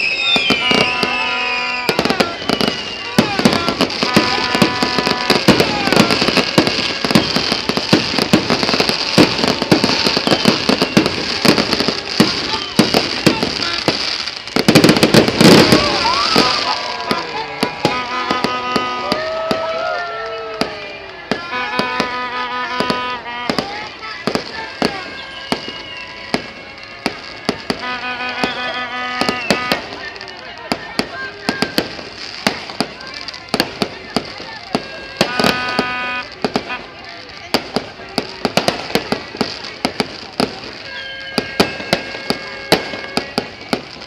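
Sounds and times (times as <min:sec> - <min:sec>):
fireworks bangs and pops: 0:00.0 - 0:44.0.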